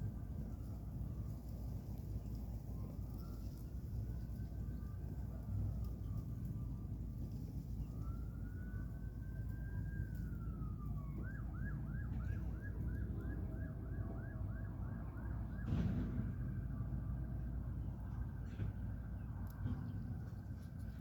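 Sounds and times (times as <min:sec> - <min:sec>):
emergency siren wailing and yelping: 0:00.0 - 0:18.4.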